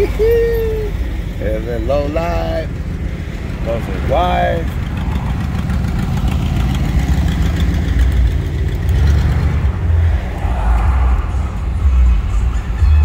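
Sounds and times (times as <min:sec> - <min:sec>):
car engines rumbling in traffic: 0:00.0 - 0:13.0.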